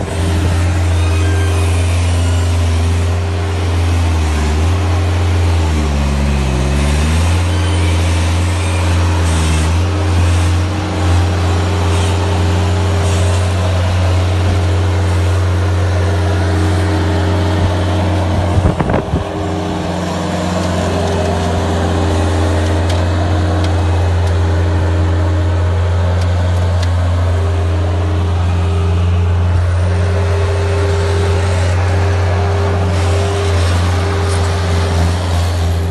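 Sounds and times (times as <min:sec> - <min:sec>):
loader engine running: 0:00.0 - 0:35.9.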